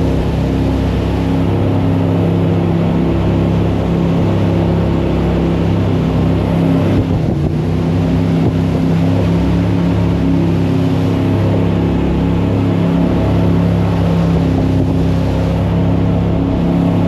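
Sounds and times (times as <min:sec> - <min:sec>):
jet boat engine running hard: 0:00.0 - 0:17.0.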